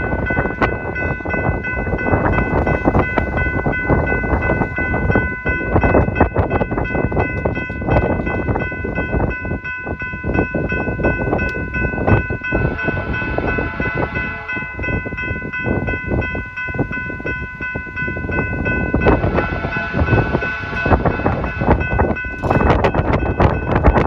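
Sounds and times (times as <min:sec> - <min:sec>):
freight train rumbling: 0:00.0 - 0:24.0
steady high tones ringing: 0:00.0 - 0:24.0
train cars clattering: 0:00.0 - 0:24.0
wind buffeting microphone: 0:00.0 - 0:24.0.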